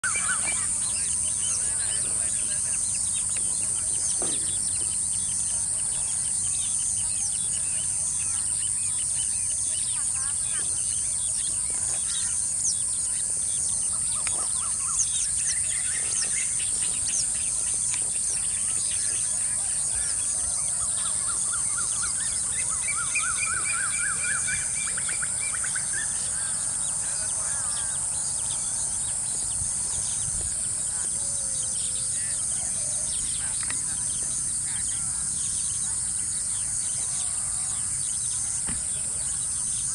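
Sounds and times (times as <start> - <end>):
birds chirping: 0.0 - 39.9
high-pitched insect drone: 0.0 - 39.9.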